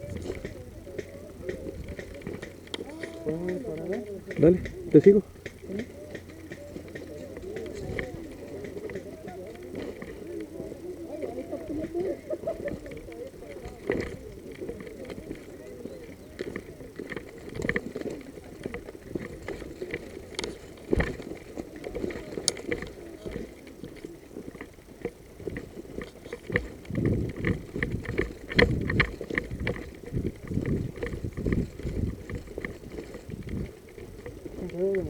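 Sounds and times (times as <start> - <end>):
clothing and gear rustling: 0.0 - 35.0
footsteps through brush: 0.0 - 35.0
twigs snapping: 0.0 - 35.0.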